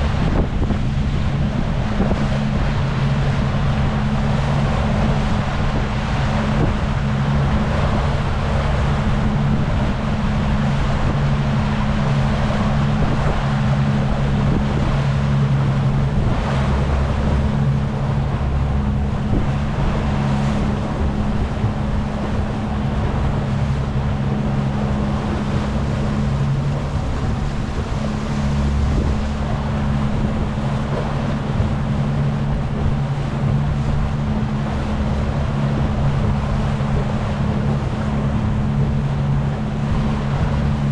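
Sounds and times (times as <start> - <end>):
speedboat engine running: 0.0 - 40.9
water rushing along hull: 0.0 - 40.9
wind: 0.0 - 40.9.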